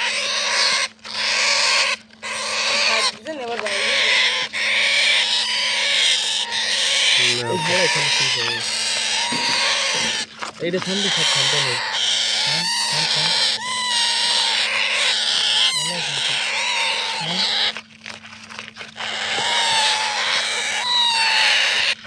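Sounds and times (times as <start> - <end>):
parakeet chicks screeching: 0.0 - 22.0.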